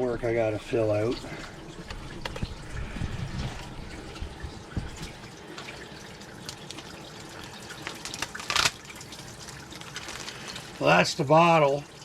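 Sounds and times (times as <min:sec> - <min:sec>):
faucet running: 0:00.1 - 0:12.0.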